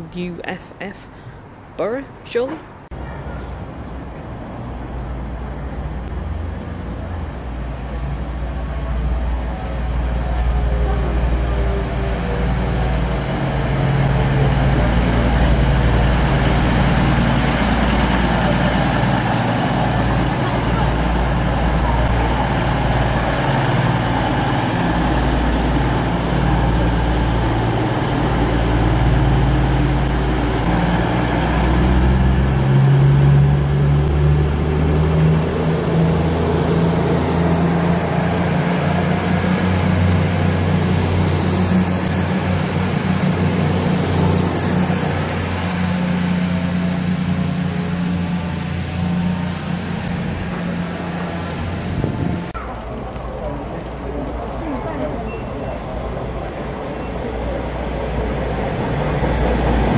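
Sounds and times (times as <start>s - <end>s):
diesel train engines droning: 0.0s - 59.9s.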